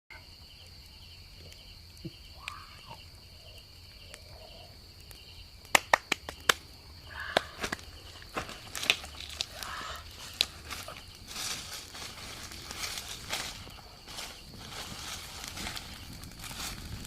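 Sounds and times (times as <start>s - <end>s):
insects droning: 0.1s - 17.0s
pulsing insect chirp: 0.1s - 17.0s.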